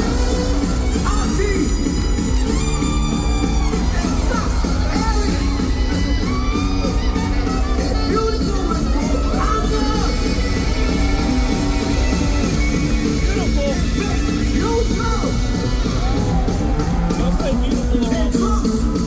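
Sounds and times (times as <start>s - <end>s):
funk-rock band playing: 0.0s - 19.0s
shouted and sung vocals: 0.0s - 19.0s.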